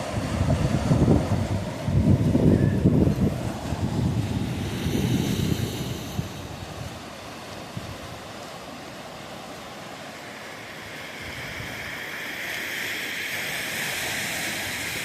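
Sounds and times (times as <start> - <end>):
waves breaking: 0.0 - 15.0.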